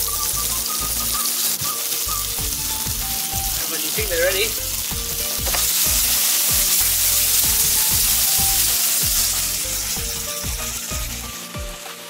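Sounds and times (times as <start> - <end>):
fruit sizzling in grill pan: 0.0 - 12.0.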